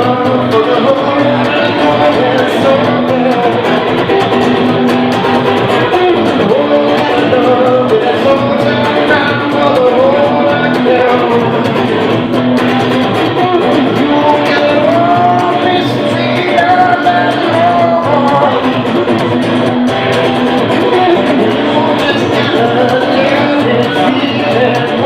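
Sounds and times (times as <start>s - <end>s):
bass and rhythm backing: 0.0s - 25.0s
electric guitar line: 0.0s - 25.0s.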